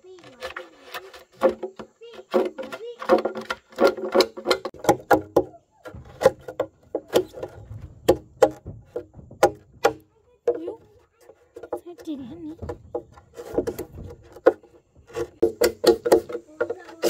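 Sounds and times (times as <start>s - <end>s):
sharp wooden knocks: 0.2s - 17.0s.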